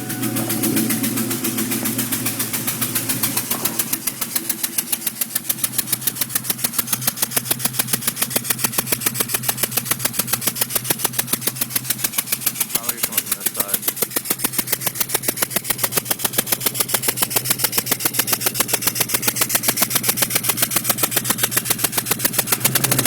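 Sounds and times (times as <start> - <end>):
car engine idling: 0.0 - 23.0
rapid popping tick: 0.0 - 23.0.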